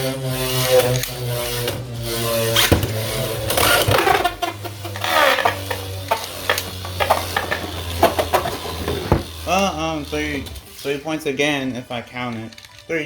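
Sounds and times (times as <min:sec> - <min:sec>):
spinning tops whirring: 0:00.0 - 0:11.4.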